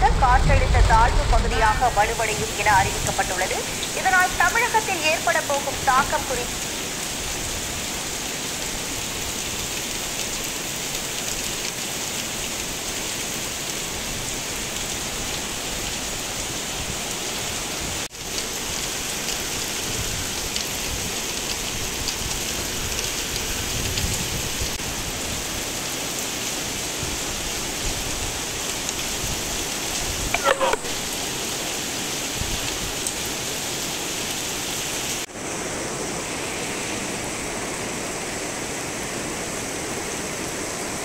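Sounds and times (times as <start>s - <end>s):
heavy rain on a wet road: 0.1s - 41.0s.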